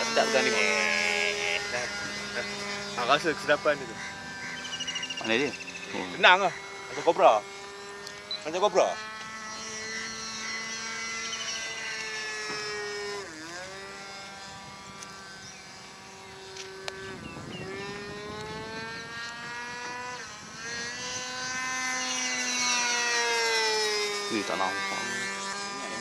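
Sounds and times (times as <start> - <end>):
model plane engine overhead: 0.0 - 26.0.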